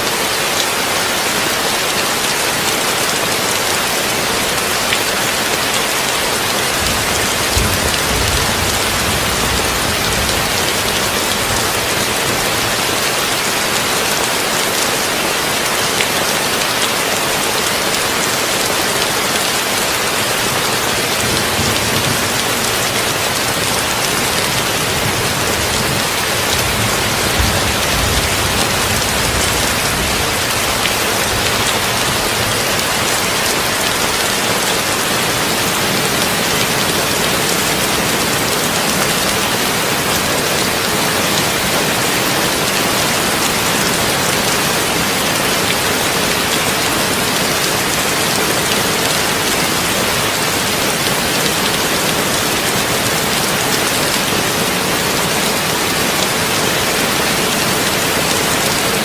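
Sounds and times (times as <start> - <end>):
heavy rain on a tin roof: 0.0 - 59.0.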